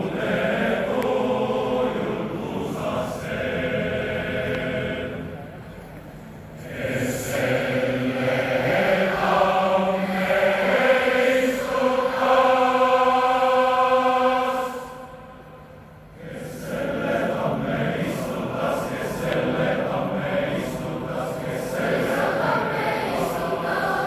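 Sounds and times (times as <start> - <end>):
massed choir singing held chords: 0.0 - 24.0.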